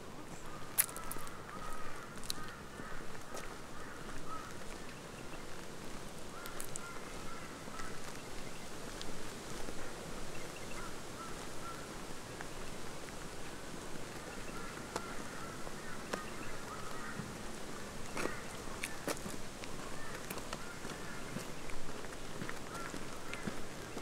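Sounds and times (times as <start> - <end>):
background hiss: 0.0 - 24.0
birds calling: 0.2 - 5.7, 6.3 - 8.8, 9.6 - 12.0, 14.0 - 21.9, 22.5 - 24.0.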